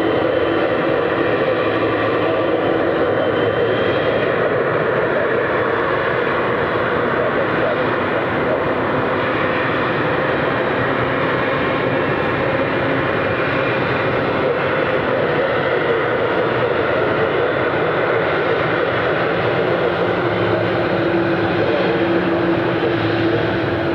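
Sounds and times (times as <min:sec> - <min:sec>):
jet engines rumbling and whining: 0:00.0 - 0:23.9.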